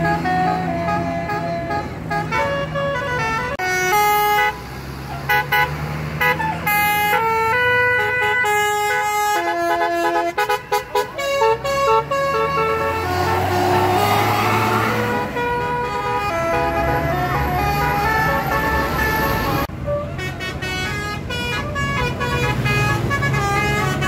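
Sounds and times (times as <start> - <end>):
musical bus horns playing tune: 0.0 - 24.0.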